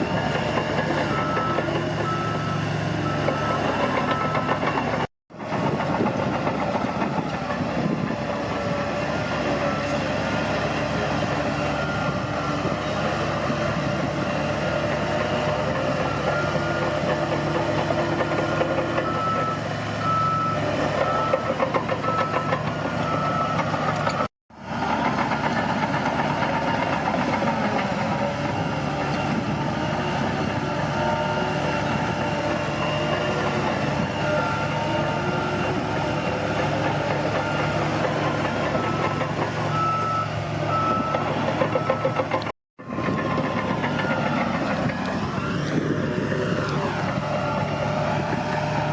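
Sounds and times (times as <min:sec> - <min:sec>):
reversing alarm beeping: 0:00.0 - 0:05.1, 0:11.2 - 0:24.3, 0:27.6 - 0:48.8
diesel engine running under load: 0:00.0 - 0:48.9.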